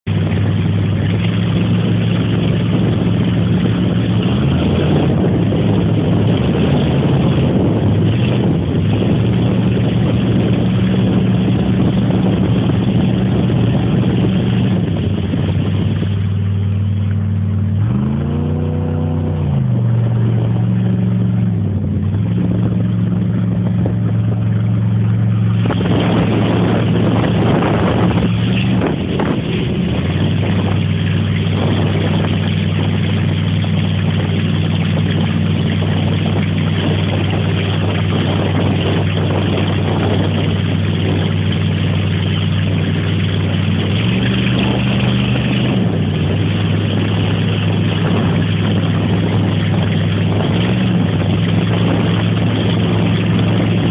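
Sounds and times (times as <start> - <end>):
motorboat engine running: 0.0 - 53.9
water noise: 0.0 - 53.9
wind noise: 0.0 - 53.9.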